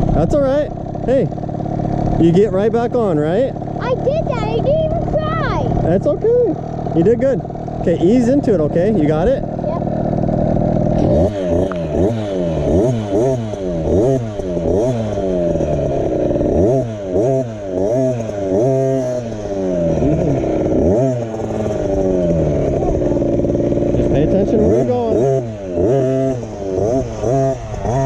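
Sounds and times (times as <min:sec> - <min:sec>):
two-stroke engine revving: 0:00.0 - 0:28.0.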